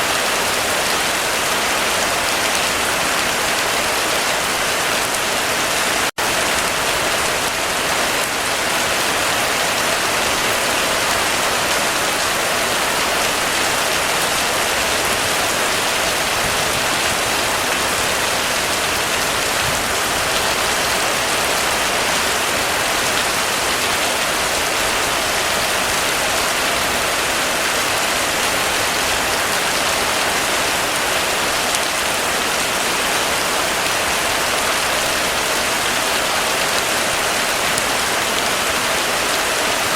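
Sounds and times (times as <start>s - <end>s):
intense rain hissing: 0.0s - 39.9s.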